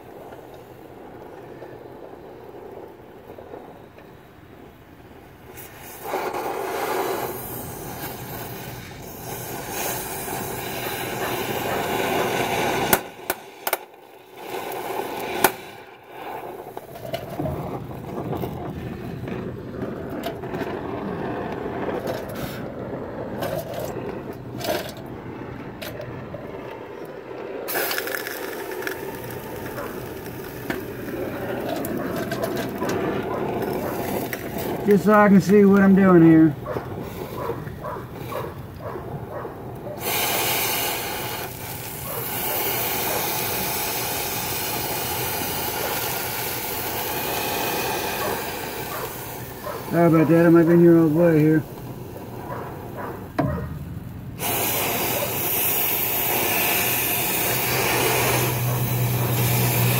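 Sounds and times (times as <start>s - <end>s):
cutting torch hissing: 0.0s - 21.0s, 26.4s - 53.5s, 54.3s - 59.9s
torch popping: 0.0s - 59.9s.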